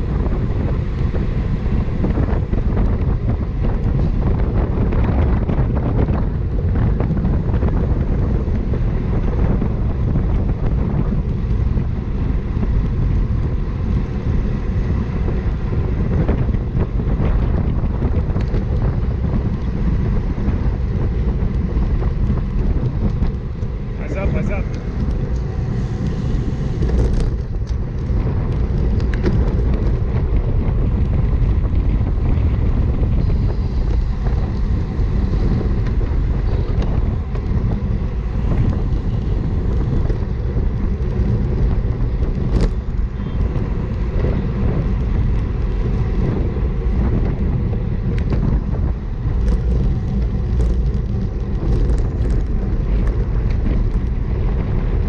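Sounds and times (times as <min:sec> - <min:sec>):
road and tyre noise: 0:00.0 - 0:55.0
wind buffeting microphone: 0:00.0 - 0:55.0.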